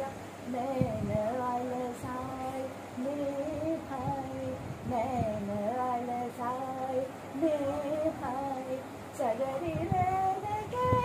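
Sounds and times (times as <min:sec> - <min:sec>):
woman singing classical vocals: 0:00.0 - 0:11.0.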